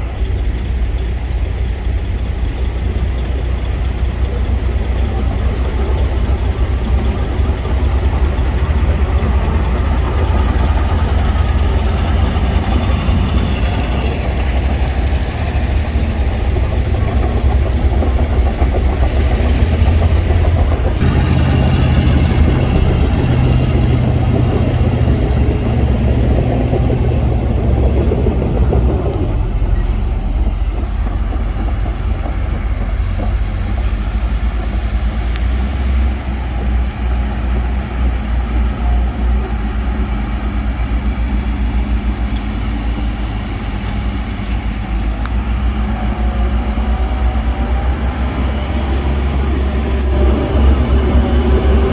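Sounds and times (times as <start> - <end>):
heavy diesel engines running: 0.0 - 51.9.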